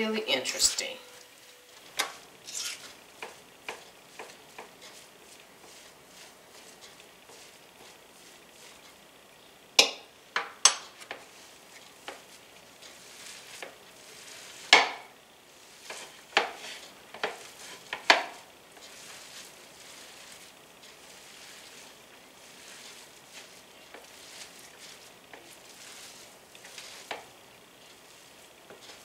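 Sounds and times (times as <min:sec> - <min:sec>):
wet squishing of food mixture: 0:01.8 - 0:09.3, 0:10.9 - 0:29.0.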